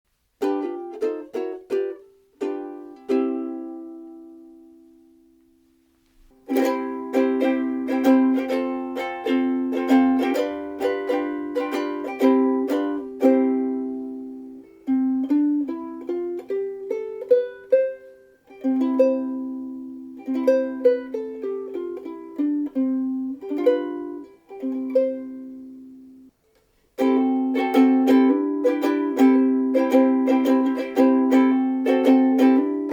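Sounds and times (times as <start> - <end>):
ukulele picked melody notes: 0.2 - 32.9
ukulele strummed chords: 0.2 - 32.9.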